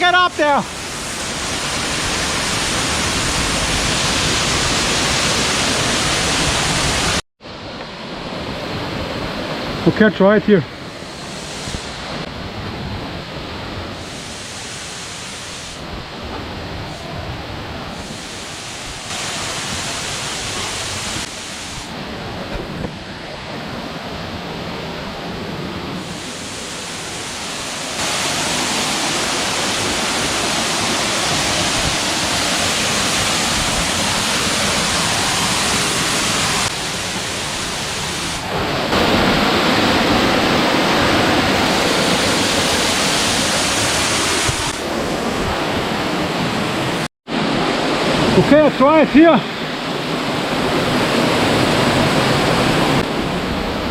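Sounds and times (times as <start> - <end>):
waterfall rushing: 0.0 - 7.2, 8.2 - 53.9.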